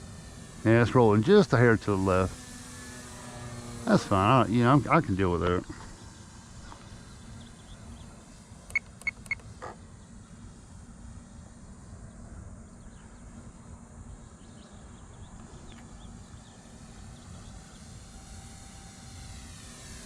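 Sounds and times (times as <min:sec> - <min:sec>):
low field noise: 0:00.0 - 0:20.0
model plane motor and propeller drone: 0:00.0 - 0:20.0.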